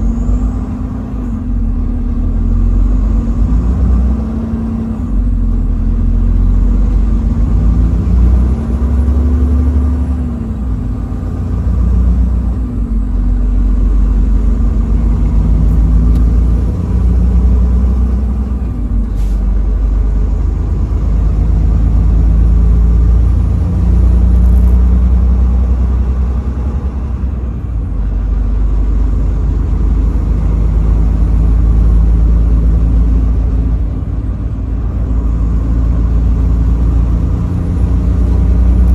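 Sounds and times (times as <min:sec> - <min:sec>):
road noise: 0:00.0 - 0:38.9
truck engine rumble: 0:00.0 - 0:38.9.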